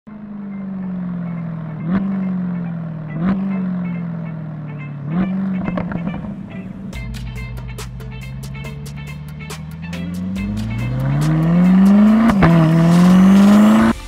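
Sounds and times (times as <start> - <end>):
car engine revving with crack: 0.1 - 7.1, 7.8 - 14.0.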